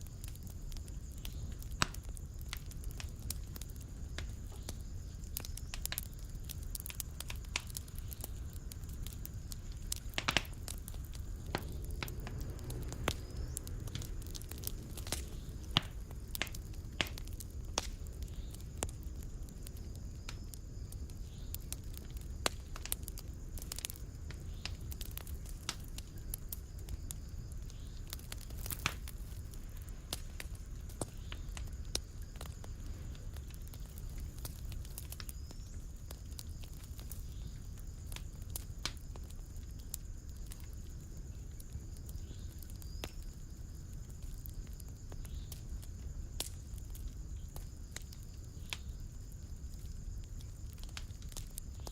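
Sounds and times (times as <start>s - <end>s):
fire crackling: 0.0s - 51.9s.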